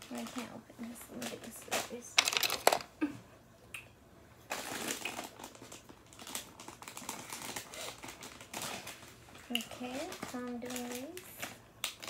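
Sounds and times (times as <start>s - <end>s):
plastic candy wrapper crinkling: 0.0s - 2.9s, 4.5s - 12.0s.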